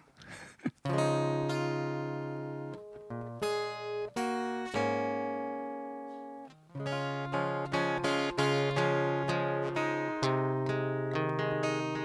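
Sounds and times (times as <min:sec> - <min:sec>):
acoustic guitar strumming chords: 0:00.8 - 0:12.0.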